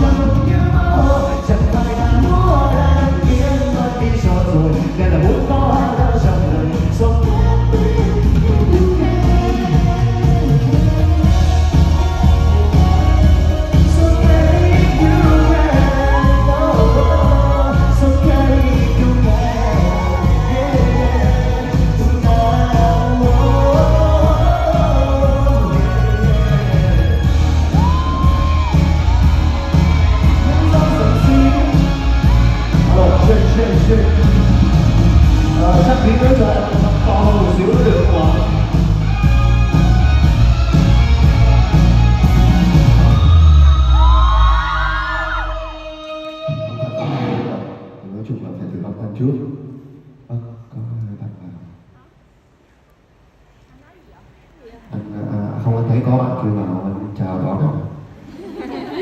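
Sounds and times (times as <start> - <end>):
person singing: 0.0 - 47.8
band playing pop music: 0.0 - 48.0.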